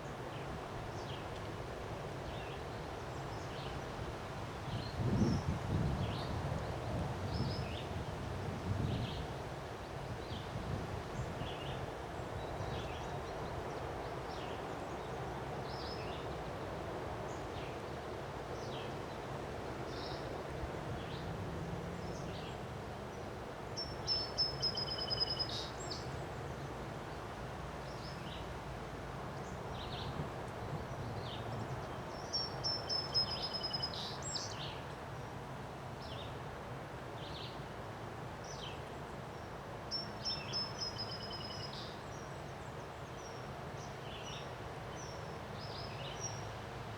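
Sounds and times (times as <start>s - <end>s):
wind: 0.0s - 46.9s.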